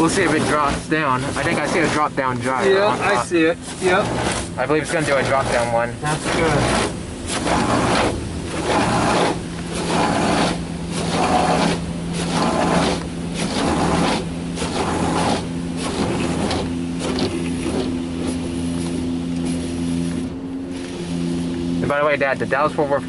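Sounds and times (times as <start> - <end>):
pump motor hum: 0.0 - 23.0
water spray beating on car: 0.0 - 23.0.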